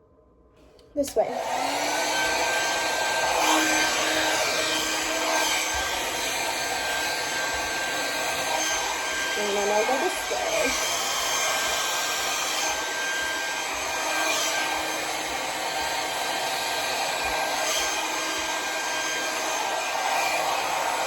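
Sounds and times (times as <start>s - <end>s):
hair dryer blowing: 1.0s - 21.0s.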